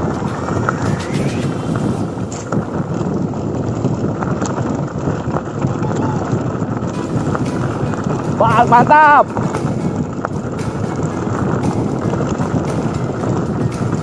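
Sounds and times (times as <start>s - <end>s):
bike tyres and frame rattling: 0.0s - 14.0s
wind buffeting microphone: 0.0s - 14.0s.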